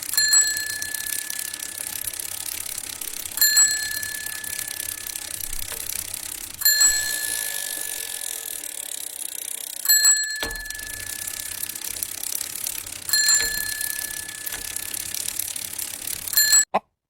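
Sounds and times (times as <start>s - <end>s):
small bell ringing: 0.1s - 8.6s, 9.8s - 12.1s, 12.9s - 16.6s.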